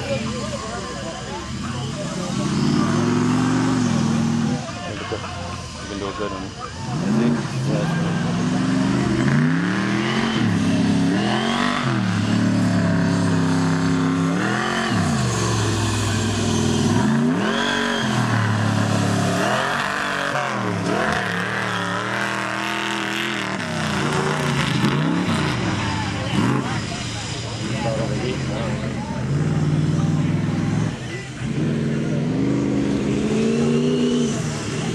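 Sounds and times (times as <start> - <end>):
truck engine revving: 0.0 - 34.9.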